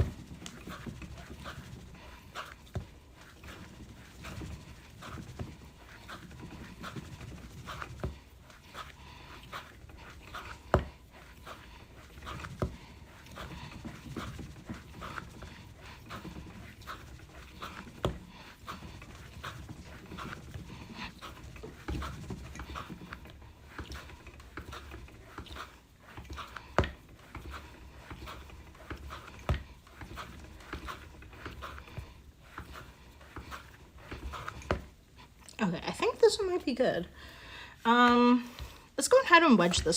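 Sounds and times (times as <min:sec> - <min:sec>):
clay pushing and rubbing strokes: 0:00.0 - 0:39.9.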